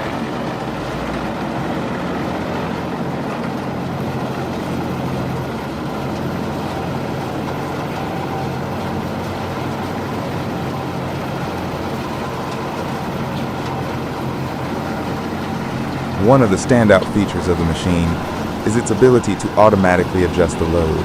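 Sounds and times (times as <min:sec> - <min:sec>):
shredder engine droning: 0:00.0 - 0:21.0.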